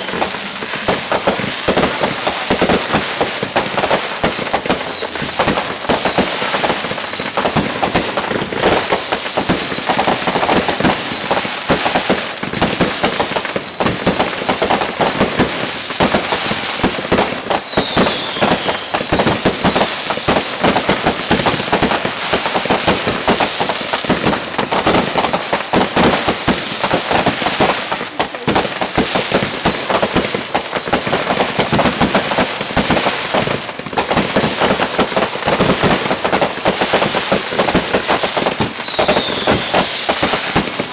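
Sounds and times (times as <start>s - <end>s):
firecrackers popping: 0.0s - 40.9s
fireworks falling whistles: 0.0s - 40.9s.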